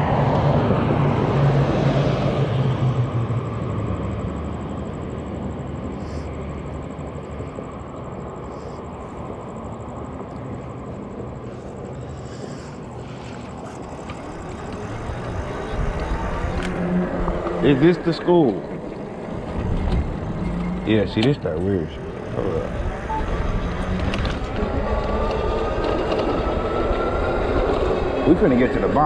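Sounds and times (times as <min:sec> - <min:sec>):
road noise: 0:00.0 - 0:29.0
vehicle engine hum: 0:00.0 - 0:29.0
wind: 0:00.0 - 0:29.0.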